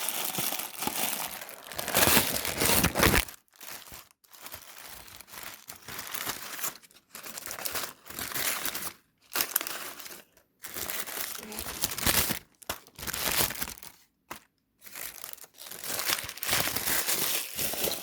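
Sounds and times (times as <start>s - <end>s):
plastic wrappers crinkling: 0.0s - 18.0s.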